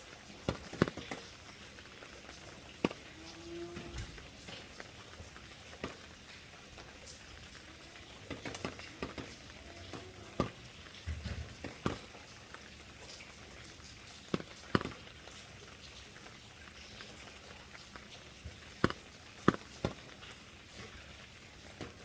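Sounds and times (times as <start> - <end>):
rain hissing: 0.0 - 22.0
drops tapping a surface: 0.4 - 15.8, 18.4 - 21.0.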